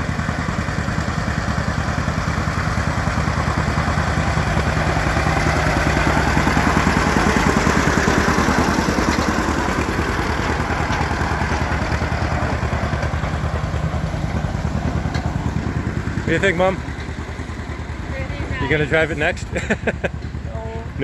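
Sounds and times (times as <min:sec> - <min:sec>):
tractor engine popping: 0:00.0 - 0:21.0.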